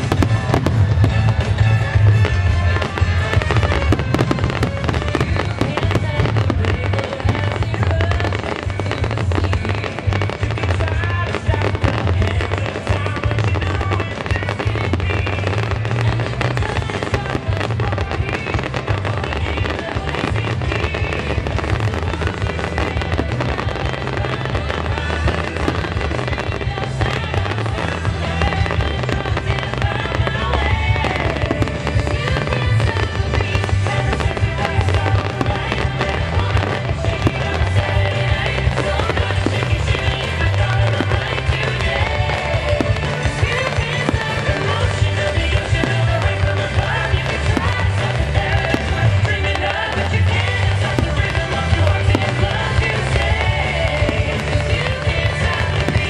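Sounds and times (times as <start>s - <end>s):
fireworks booming and crackling: 0.0s - 56.0s
music playing: 0.0s - 56.0s.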